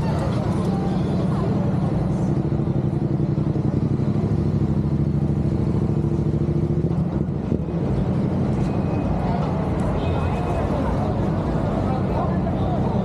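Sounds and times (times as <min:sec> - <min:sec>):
city street traffic rumble: 0:00.0 - 0:13.0
engine humming: 0:00.0 - 0:13.0.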